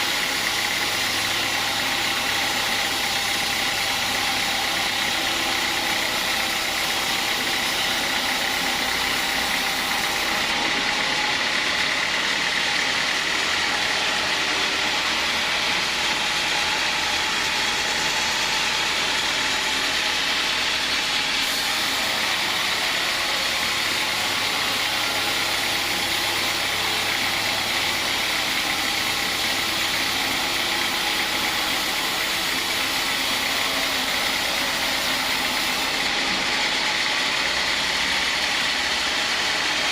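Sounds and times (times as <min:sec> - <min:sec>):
sawmill engine drone with whine: 0:00.0 - 0:39.9.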